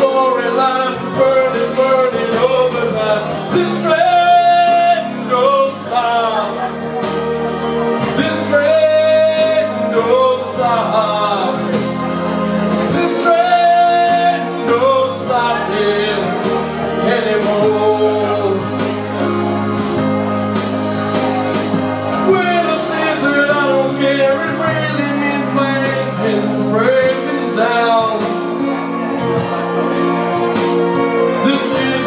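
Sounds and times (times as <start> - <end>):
man singing into microphone: 0.0 - 19.4, 22.1 - 32.0
instrumental backing with steady beat: 0.0 - 32.0.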